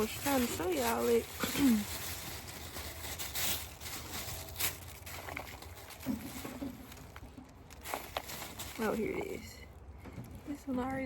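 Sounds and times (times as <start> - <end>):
acorns and dry leaves rustling: 0.0 - 11.0.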